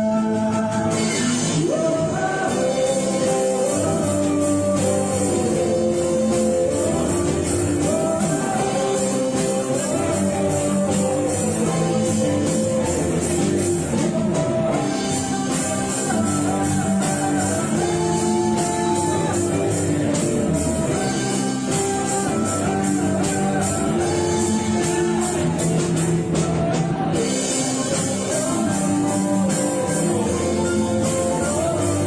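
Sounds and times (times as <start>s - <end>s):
live band playing pop ballad: 0.0s - 32.0s.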